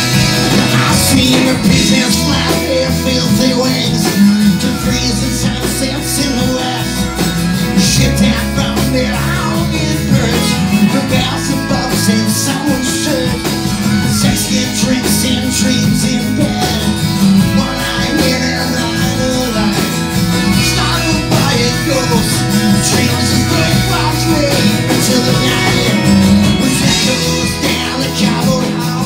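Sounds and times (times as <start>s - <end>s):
harmonica: 0.0s - 29.0s
live rock band playing: 0.0s - 29.0s.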